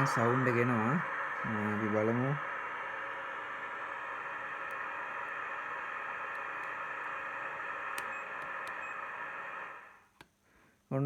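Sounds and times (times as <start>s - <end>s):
static hiss from loudspeaker: 0.0s - 10.1s.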